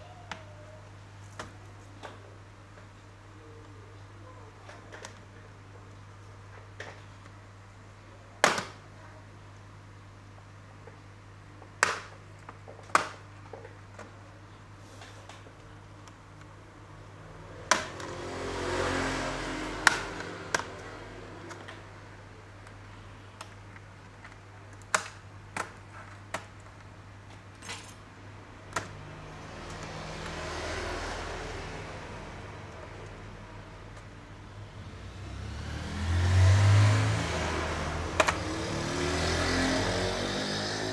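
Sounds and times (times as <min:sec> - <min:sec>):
low electrical hum: 0:00.0 - 0:36.1.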